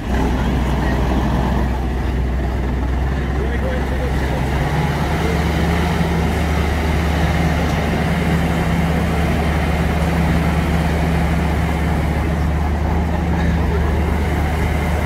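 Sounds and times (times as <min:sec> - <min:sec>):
diesel lorry engine idling: 0:00.0 - 0:15.0.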